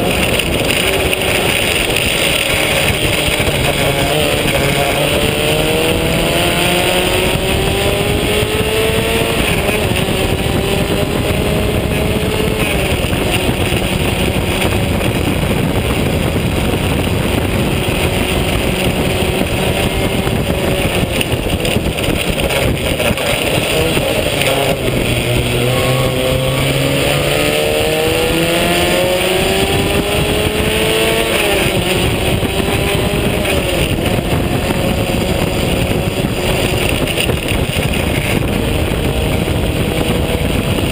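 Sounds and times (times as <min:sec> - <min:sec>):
race car engine revving: 0:00.0 - 0:40.9
wind and road rush: 0:00.0 - 0:40.9.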